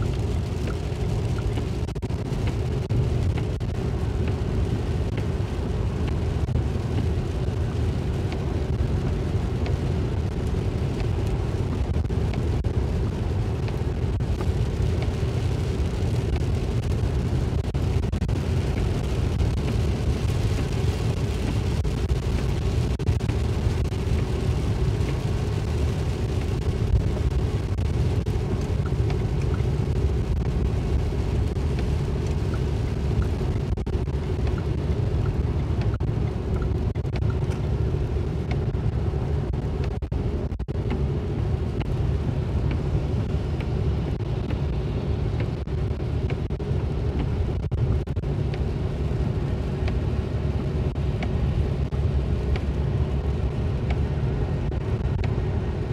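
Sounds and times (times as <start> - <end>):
tyres on wet road: 0.0 - 55.9.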